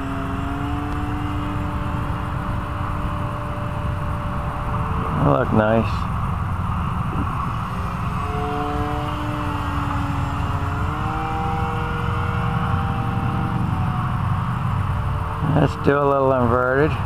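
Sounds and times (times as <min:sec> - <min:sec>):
low rumble: 0:00.0 - 0:15.6
model plane motor droning: 0:00.0 - 0:17.0.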